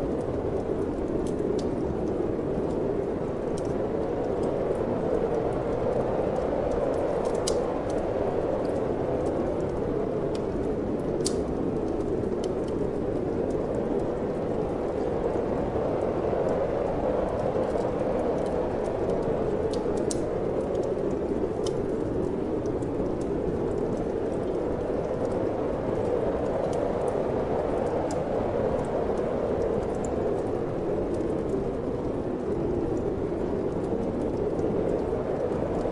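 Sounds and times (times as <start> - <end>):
wind blowing: 0.0 - 35.9
wood fire crackling: 0.0 - 35.9.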